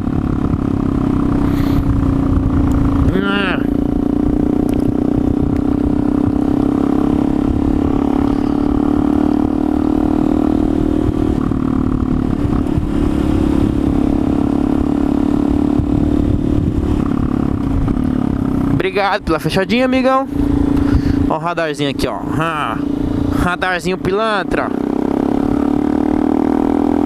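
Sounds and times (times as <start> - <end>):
motorcycle engine in tunnel: 0.0 - 27.0.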